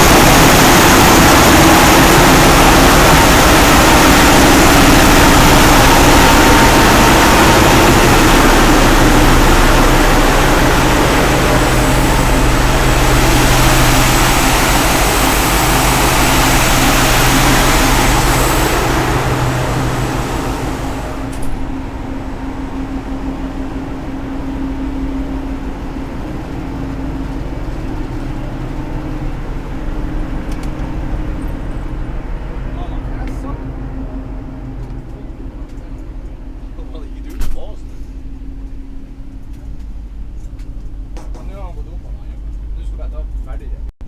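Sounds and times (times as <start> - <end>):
engine room machinery hissing: 0.0 - 39.4
machinery deep hum: 0.0 - 43.9.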